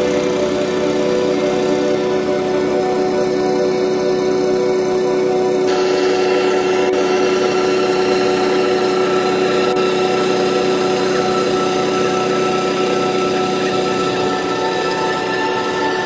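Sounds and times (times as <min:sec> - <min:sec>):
harvester engine running: 0:00.0 - 0:16.0.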